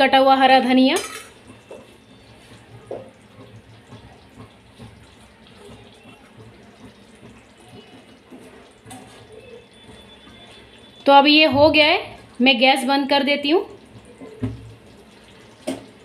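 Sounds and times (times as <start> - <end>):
gravy bubbling in a pan: 1.3 - 16.0.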